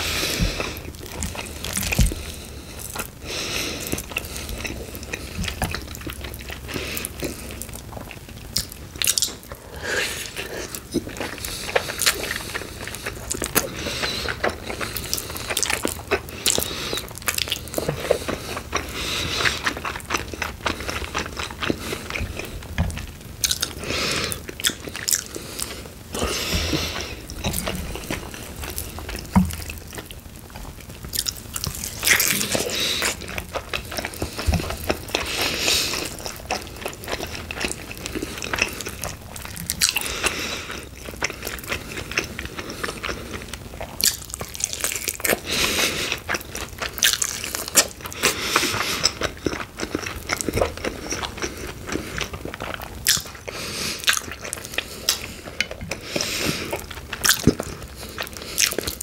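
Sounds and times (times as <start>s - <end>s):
biting and chewing: 0.0s - 59.0s
crunching of skin: 10.2s - 59.0s.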